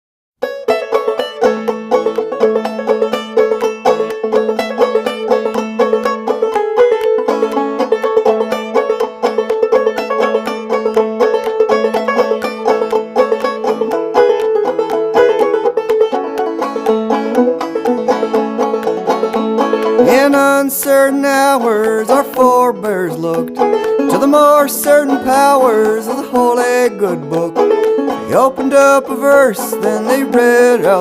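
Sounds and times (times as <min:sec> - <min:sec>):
fast banjo instrumental: 0:00.4 - 0:31.0.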